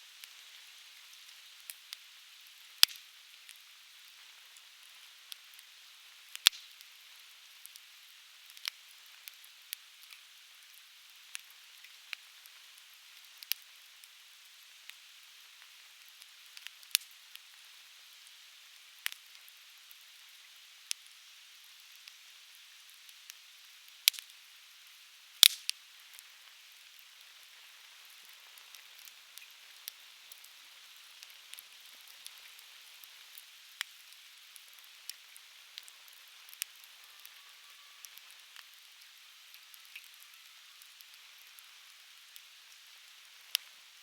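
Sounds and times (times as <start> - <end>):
soft fire hiss: 0.0 - 44.0
firewood crackling and popping: 0.1 - 44.0.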